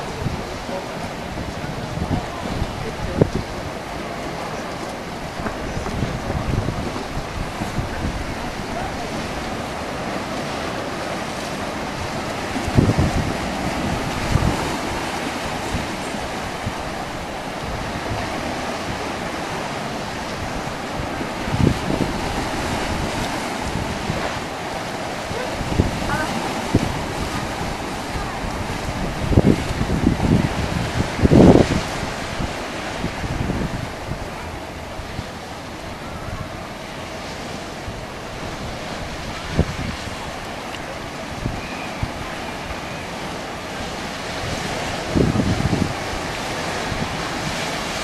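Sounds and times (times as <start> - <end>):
sea rushing: 0.0 - 48.0
wind buffeting microphone: 0.0 - 48.0.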